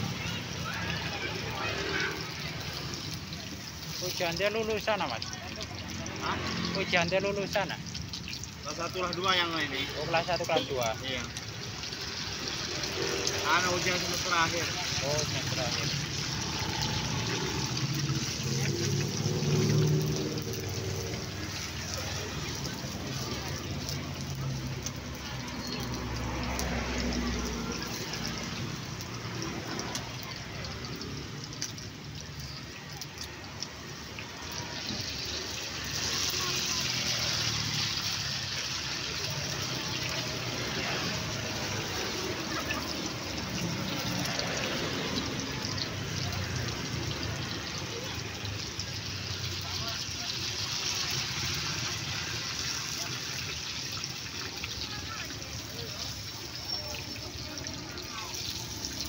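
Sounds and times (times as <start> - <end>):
egg sizzling in hot oil: 0.0 - 59.0.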